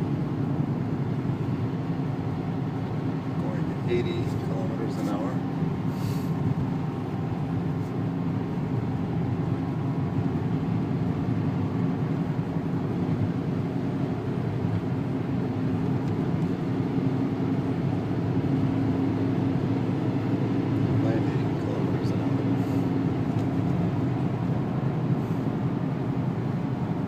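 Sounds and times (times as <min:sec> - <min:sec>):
diesel engine at low revs: 0:00.0 - 0:27.0.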